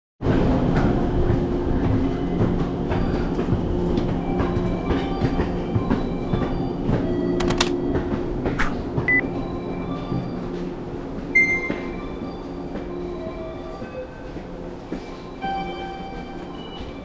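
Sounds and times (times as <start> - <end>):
train rumble and hum: 0.2 - 17.0.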